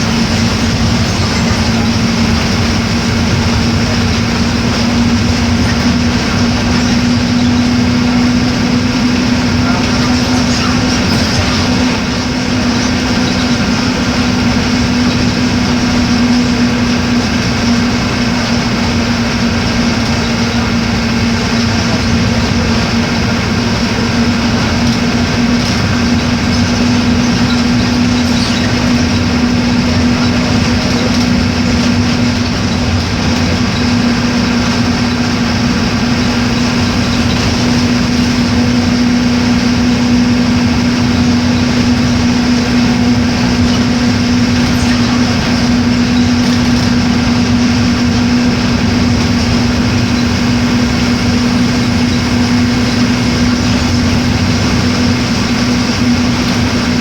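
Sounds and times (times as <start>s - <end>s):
constant low hum: 0.0s - 57.0s
diesel bus engine running: 0.0s - 57.0s.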